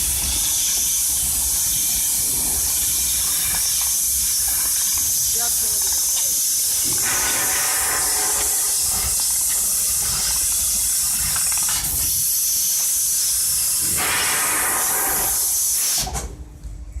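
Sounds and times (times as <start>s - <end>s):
loud steady hiss: 0.0s - 16.3s.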